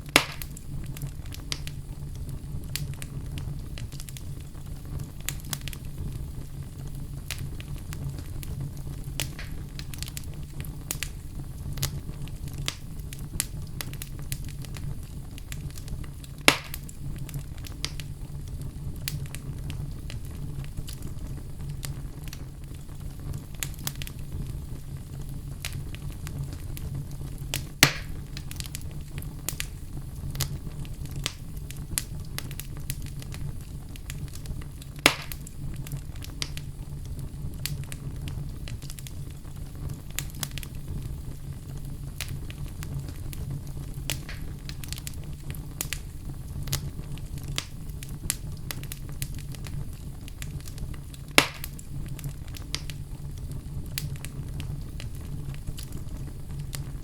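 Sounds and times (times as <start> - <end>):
fire popping loudly: 0.0 - 57.0
wood fire crackling: 0.0 - 57.0.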